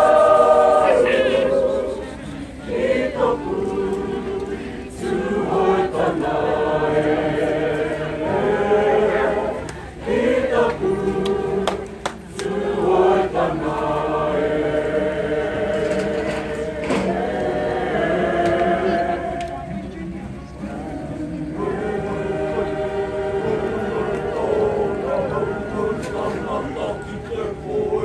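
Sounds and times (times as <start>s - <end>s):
group singing in unison: 0.0s - 28.0s.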